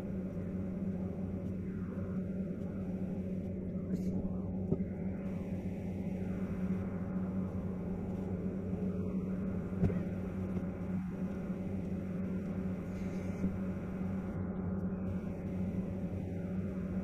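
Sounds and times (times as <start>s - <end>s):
aircraft engine hum: 0.0s - 17.0s.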